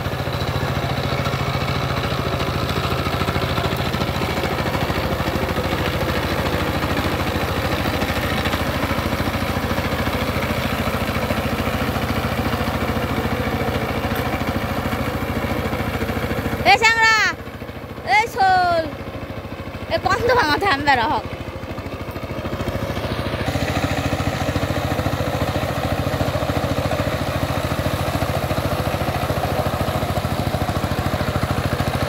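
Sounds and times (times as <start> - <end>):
diesel engine running steadily: 0.0 - 32.0.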